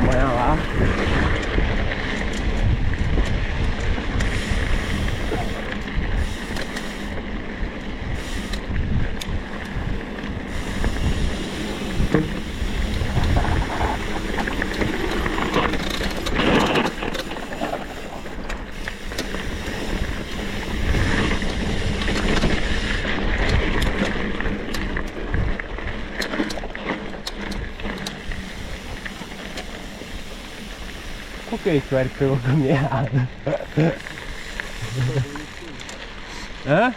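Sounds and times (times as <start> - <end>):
wind buffeting microphone: 0.0 - 36.6
small motorbike running: 0.0 - 36.9.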